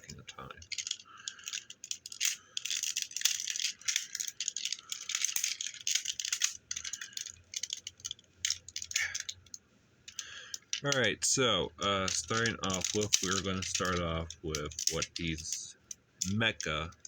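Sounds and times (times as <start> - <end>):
plastic toy parts clicking and rattling: 0.0 - 17.0.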